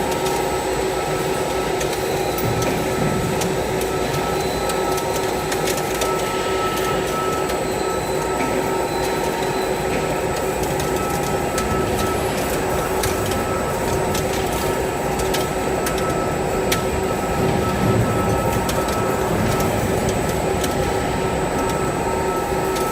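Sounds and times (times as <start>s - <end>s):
milling machine hum and whine: 0.0s - 22.9s.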